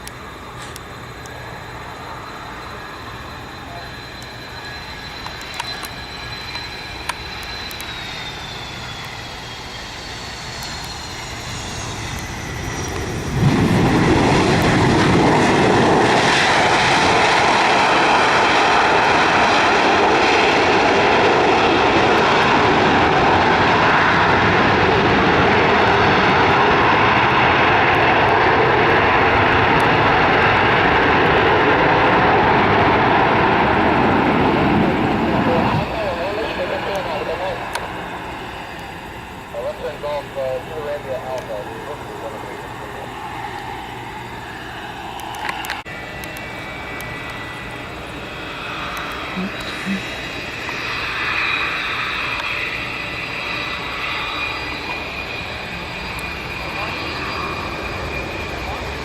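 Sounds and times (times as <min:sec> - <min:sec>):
jet engine roar: 0:00.0 - 0:59.0
jet engines whining: 0:00.0 - 0:59.0.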